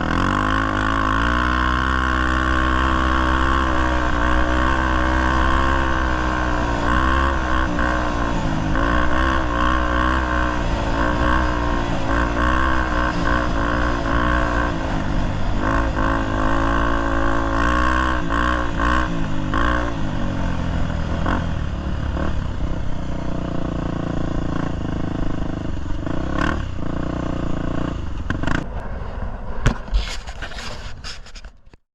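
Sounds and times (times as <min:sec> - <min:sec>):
motorcycle engine running: 0:00.0 - 0:30.8.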